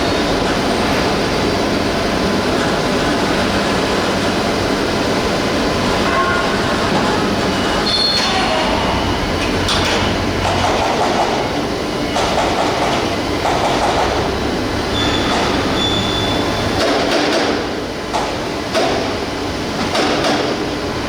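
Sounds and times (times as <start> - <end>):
loud industrial machinery: 0.0 - 21.0.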